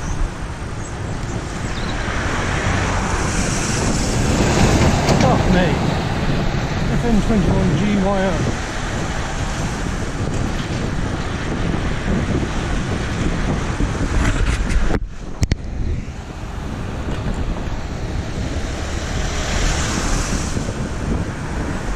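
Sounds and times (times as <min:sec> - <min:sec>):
road noise: 0:00.0 - 0:21.9
wind rushing over microphone: 0:00.0 - 0:21.9.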